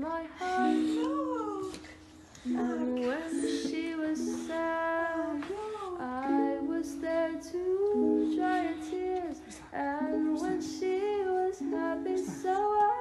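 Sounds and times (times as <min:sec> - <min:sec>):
song with sung melody: 0:00.0 - 0:13.0.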